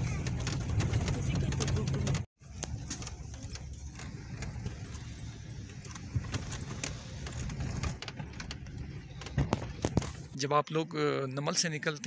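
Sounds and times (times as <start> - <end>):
light rattles and clicks: 0.0 - 10.4
car engine and road rumble: 0.0 - 12.0.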